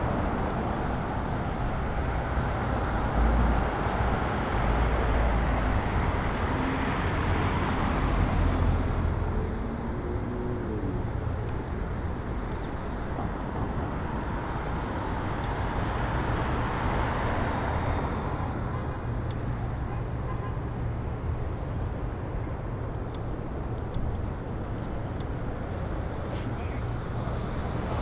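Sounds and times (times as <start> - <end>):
passing cars rumbling: 0.0 - 28.0.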